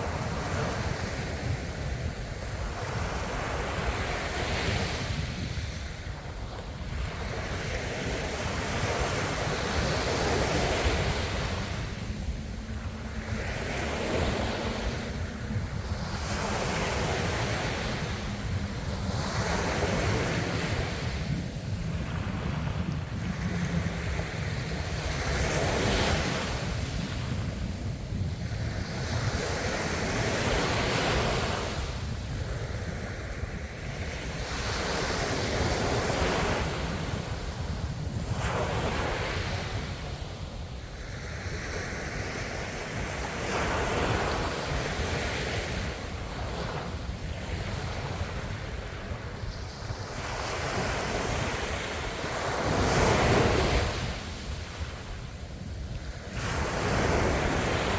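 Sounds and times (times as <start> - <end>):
ocean waves washing ashore: 0.0 - 57.9.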